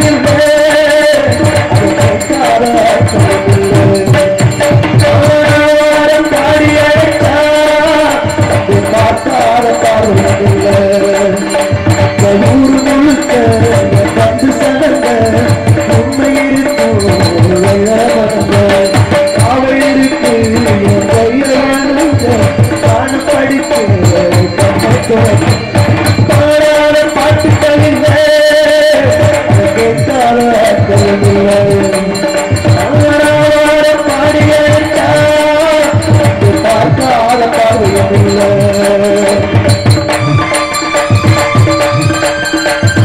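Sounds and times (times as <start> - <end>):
tabla and hand drums: 0.0 - 43.0.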